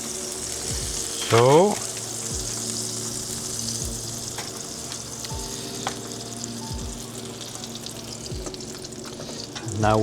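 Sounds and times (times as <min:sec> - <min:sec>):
butter sizzling on a grill plate: 0:00.0 - 0:10.0.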